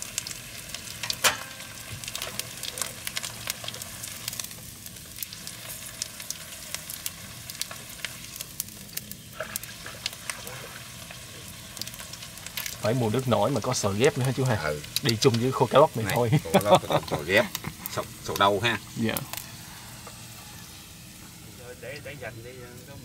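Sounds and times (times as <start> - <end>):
fish frying in oil: 0.0 - 23.0
oil crackling and popping: 0.0 - 23.0.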